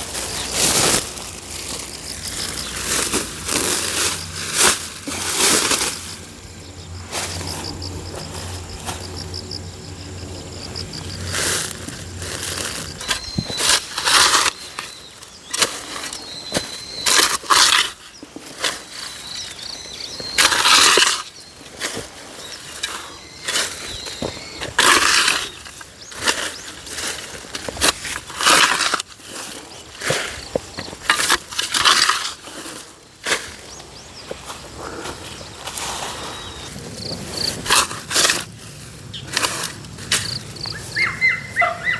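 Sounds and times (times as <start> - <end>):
garden tool scraping dry soil: 0.0 - 9.4, 10.8 - 41.8
faint insect chirping: 0.0 - 27.3, 32.4 - 38.1, 39.0 - 41.9.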